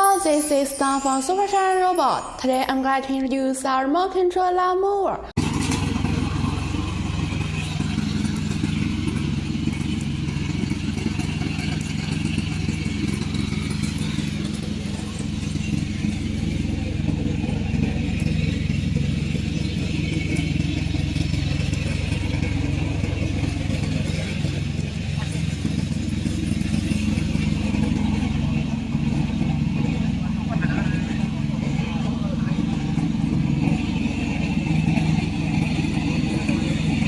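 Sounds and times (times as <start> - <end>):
lawn mower engine running: 5.4 - 37.0.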